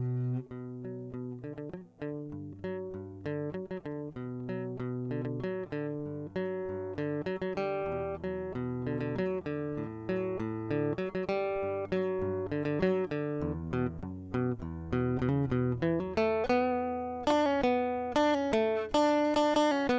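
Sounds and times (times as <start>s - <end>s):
acoustic guitar music: 0.0s - 19.9s.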